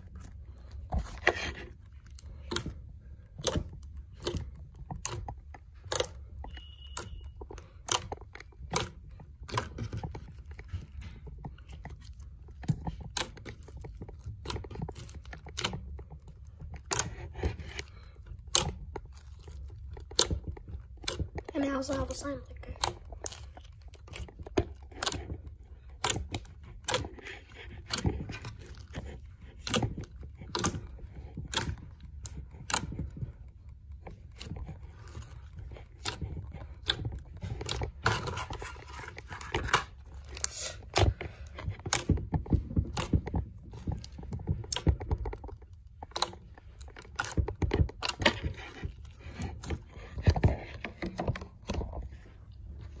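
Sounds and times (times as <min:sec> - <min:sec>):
slime clicking and popping: 0:00.0 - 0:51.8.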